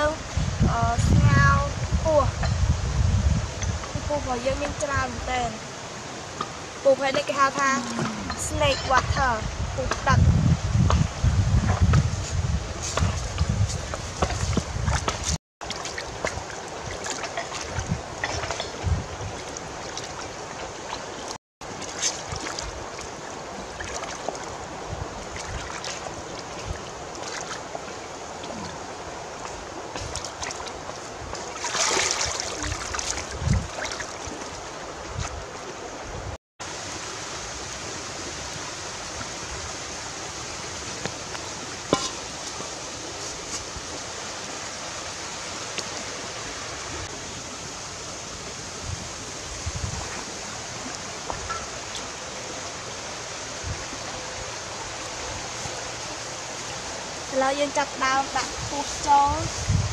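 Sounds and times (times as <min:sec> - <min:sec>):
water splashing and sloshing: 0:00.0 - 0:59.9
river water running over stones: 0:01.1 - 0:59.9.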